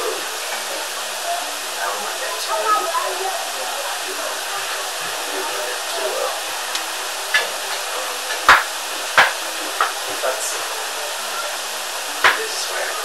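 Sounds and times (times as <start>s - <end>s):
loud background hiss: 0.0s - 13.0s.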